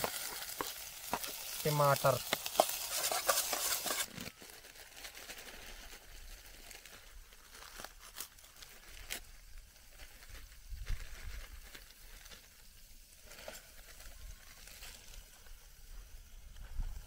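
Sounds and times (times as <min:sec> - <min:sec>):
faint crinkling: 0:00.0 - 0:16.9
vegetables sizzling in hot oil: 0:00.0 - 0:17.0.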